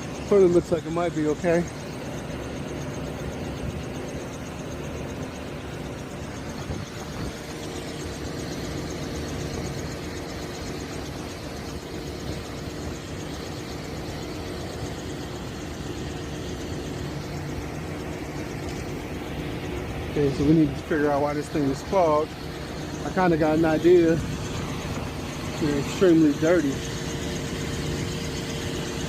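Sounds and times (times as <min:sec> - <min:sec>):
high steady tone: 0:00.0 - 0:29.0
hvac fans and motor hum: 0:00.0 - 0:29.0.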